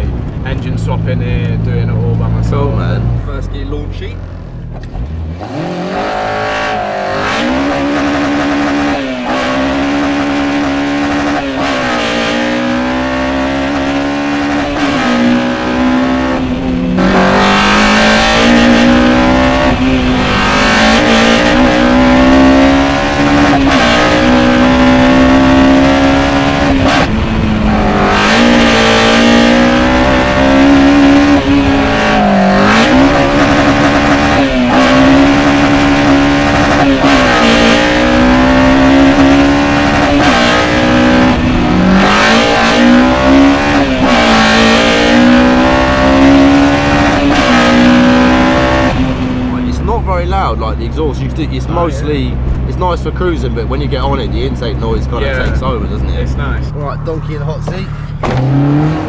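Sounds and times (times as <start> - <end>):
car engine revving through gears: 0.2 - 59.0.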